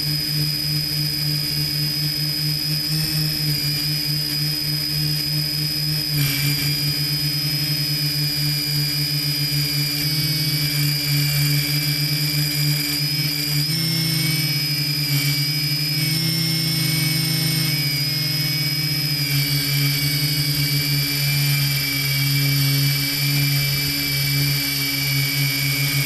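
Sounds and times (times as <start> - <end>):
drone propellers humming and whining: 0.0 - 26.0.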